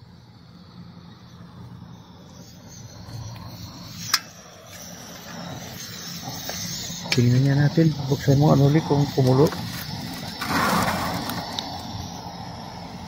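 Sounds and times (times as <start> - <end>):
gas burner hissing: 0.0 - 13.0.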